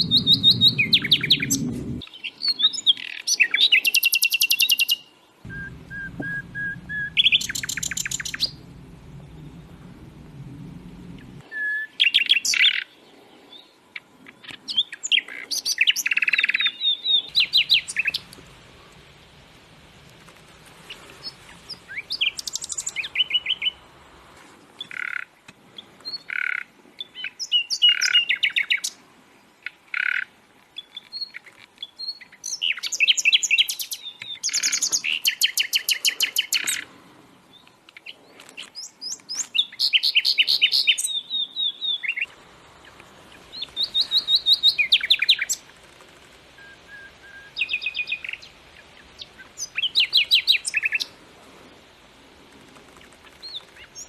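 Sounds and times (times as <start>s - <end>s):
songbirds trilling and chirping: 0.0s - 19.6s, 20.7s - 24.0s, 24.8s - 54.0s.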